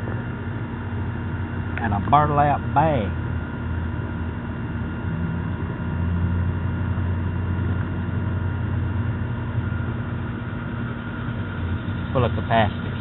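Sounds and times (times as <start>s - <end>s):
machine humming with tones: 0.0s - 13.0s.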